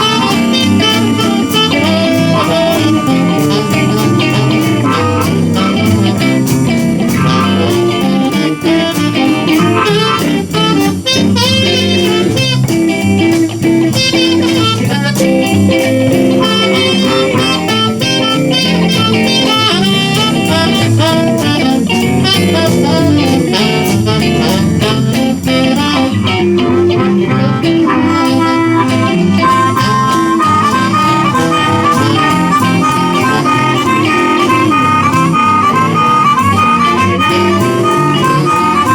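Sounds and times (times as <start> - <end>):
bass guitar: 0.0 - 38.9
drum kit: 0.0 - 38.9
electric guitars: 0.0 - 38.9
saxophone: 0.0 - 38.9.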